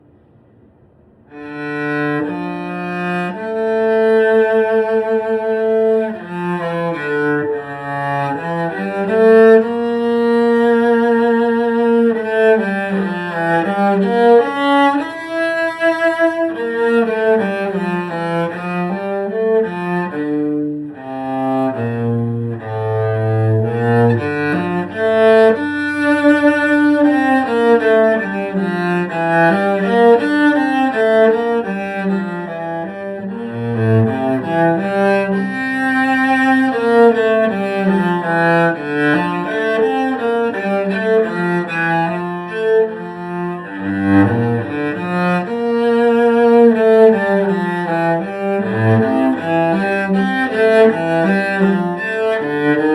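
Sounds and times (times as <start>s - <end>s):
solo cello bowed melody: 1.3s - 52.9s.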